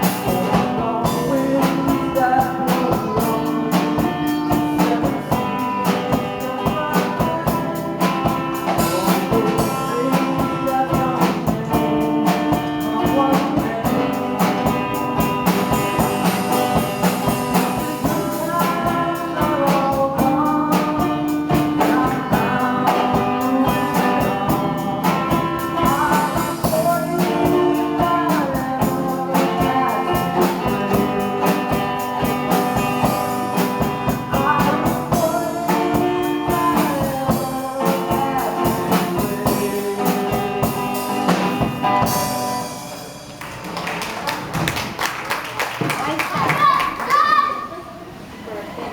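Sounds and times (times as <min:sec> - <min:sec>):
person singing folk song: 0:00.0 - 0:42.8
strummed guitar: 0:00.0 - 0:43.4.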